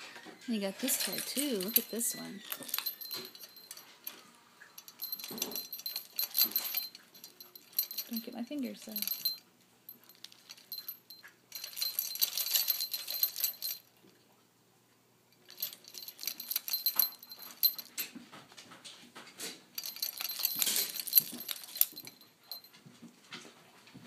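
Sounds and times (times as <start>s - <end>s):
toy chain links jangling: 0.5s - 14.1s, 15.4s - 18.1s, 19.8s - 22.8s.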